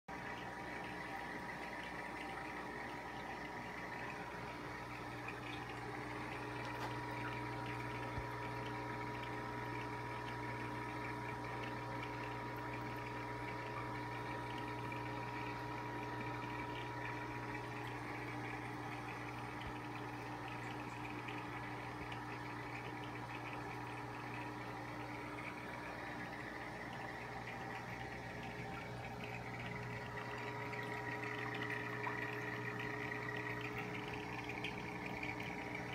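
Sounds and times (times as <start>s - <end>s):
aquarium air bubbles: 0.1s - 35.9s
constant low hum: 0.1s - 35.9s.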